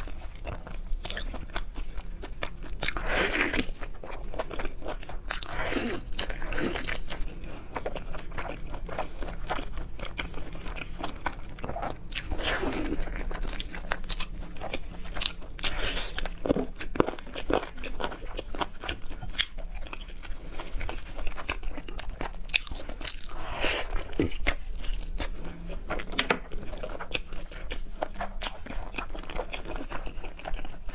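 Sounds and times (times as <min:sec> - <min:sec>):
chewing and crunching: 0:00.0 - 0:30.9.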